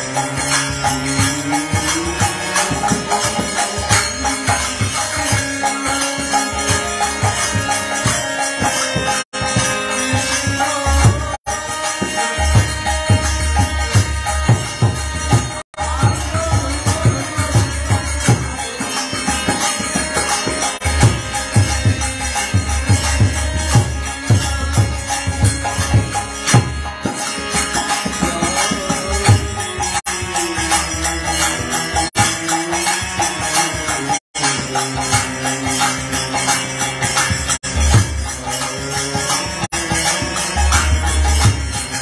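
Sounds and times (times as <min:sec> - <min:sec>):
man singing: 0:00.0 - 0:08.2, 0:09.4 - 0:37.0, 0:37.6 - 0:42.0
harmonium: 0:00.0 - 0:42.0
jingling hand percussion: 0:00.0 - 0:42.0
steady drum beat: 0:00.0 - 0:42.0.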